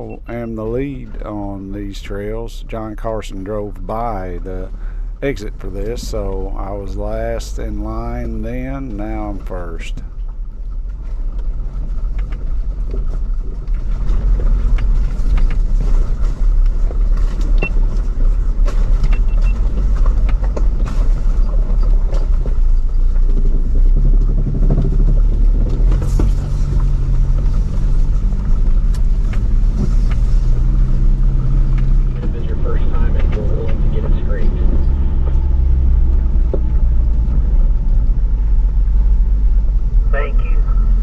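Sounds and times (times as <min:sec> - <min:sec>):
vehicle engine low rumble: 0:00.0 - 0:41.0.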